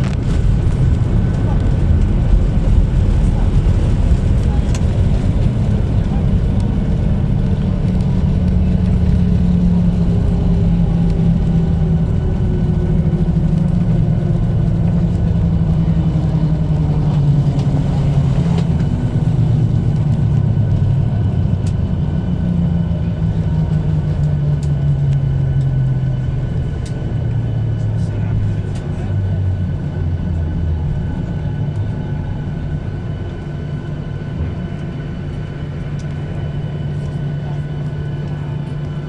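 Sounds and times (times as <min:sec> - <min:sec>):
jet engine drone in cabin: 0:00.0 - 0:39.0.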